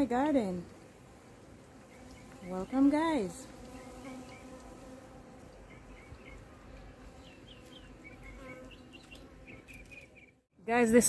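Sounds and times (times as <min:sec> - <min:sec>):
bees buzzing: 0:00.0 - 0:10.3.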